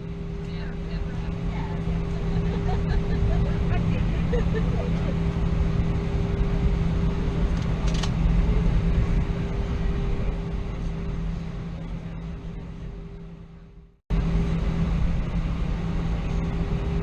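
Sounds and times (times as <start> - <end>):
jet engines idling rumble: 0.0 - 17.0
steady cabin hum: 0.0 - 17.0.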